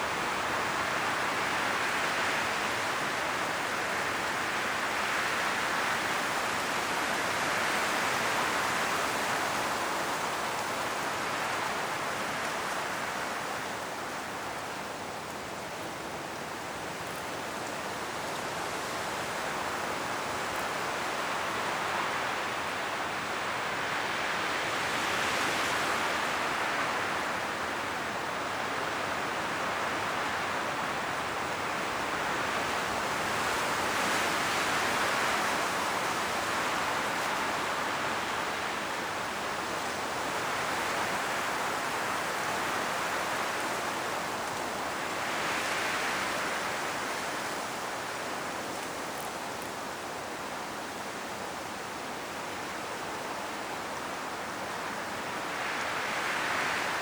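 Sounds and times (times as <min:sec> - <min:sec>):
leaves rustling: 0:00.0 - 0:57.0
strong wind through trees: 0:00.0 - 0:57.0.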